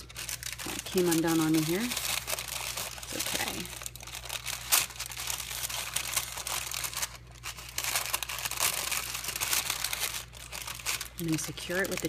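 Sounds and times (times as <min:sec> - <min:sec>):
parchment paper crinkling: 0:00.0 - 0:12.0.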